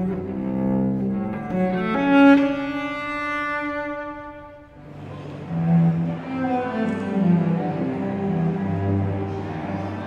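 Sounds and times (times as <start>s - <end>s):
bowed cello notes: 0.0s - 10.0s.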